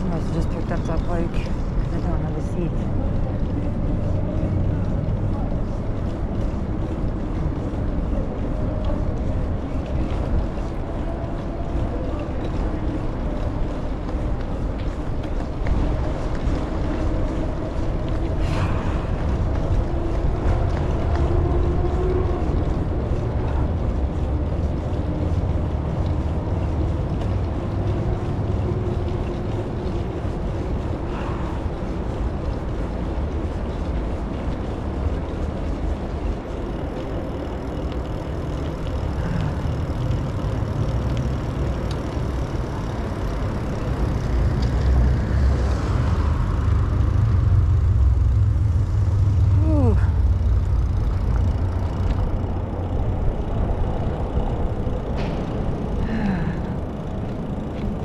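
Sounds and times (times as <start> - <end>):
bicycle tyres rolling on trail: 0.0 - 58.0
wind rumble on microphone: 0.0 - 58.0.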